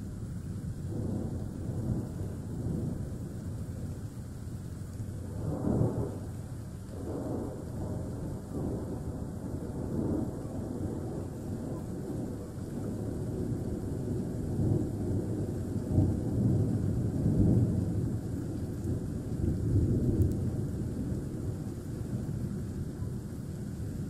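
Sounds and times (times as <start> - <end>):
rolling thunder: 0.8 - 4.1, 5.1 - 24.0.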